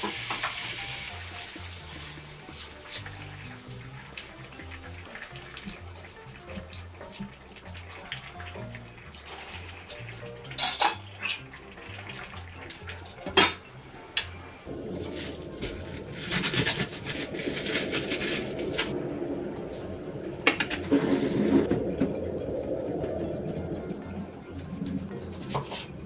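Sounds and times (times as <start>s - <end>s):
water splashing over mushrooms: 0.0s - 21.9s.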